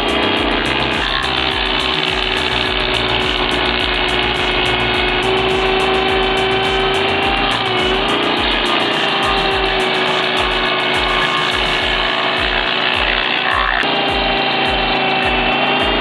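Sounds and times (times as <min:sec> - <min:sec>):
background music with bass beat: 0:00.0 - 0:16.0.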